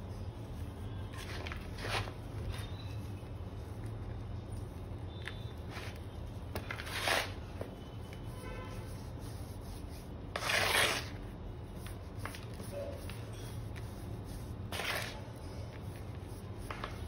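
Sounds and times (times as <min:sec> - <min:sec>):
hands crumbling chalk powder: 0:00.1 - 0:17.0.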